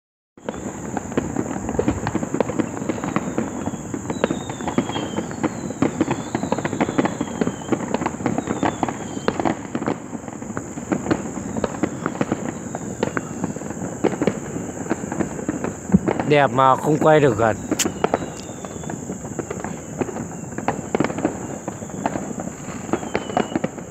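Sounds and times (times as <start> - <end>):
firework whistles falling: 0.4 - 23.9
fireworks popping and crackling: 0.4 - 23.9.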